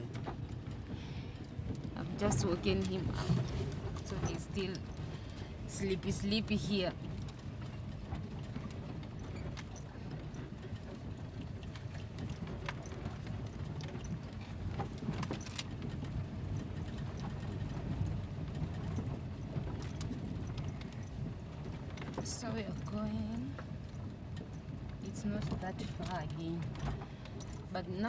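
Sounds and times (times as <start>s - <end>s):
car engine and road rumble: 0.0s - 28.0s
light clicks and rattles: 0.0s - 28.0s.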